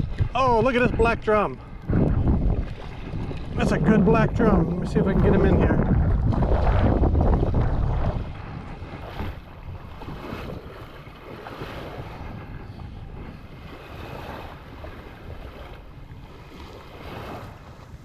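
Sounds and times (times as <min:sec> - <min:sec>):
water washing at shoreline: 0:00.0 - 0:18.0
wind on microphone: 0:00.0 - 0:18.0.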